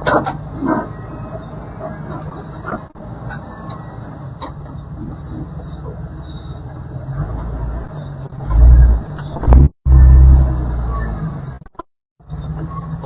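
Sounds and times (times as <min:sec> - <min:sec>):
engine under load: 0:00.0 - 0:13.0.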